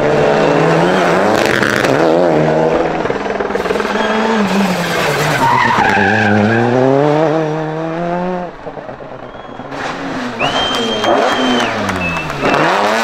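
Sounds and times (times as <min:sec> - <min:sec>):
rally car engine at full throttle: 0:00.0 - 0:13.0
tyres skidding: 0:00.0 - 0:13.0.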